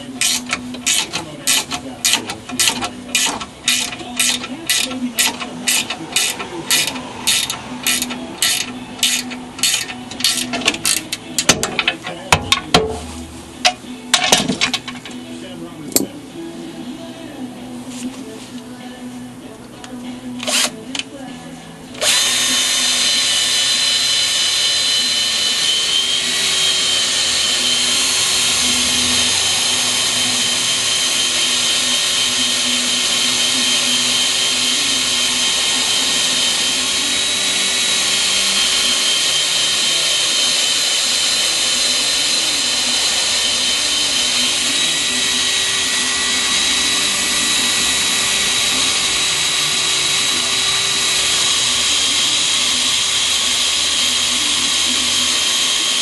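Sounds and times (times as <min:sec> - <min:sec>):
electric drill boring into metal: 0:00.0 - 0:13.0, 0:20.4 - 0:21.2, 0:22.0 - 0:56.0.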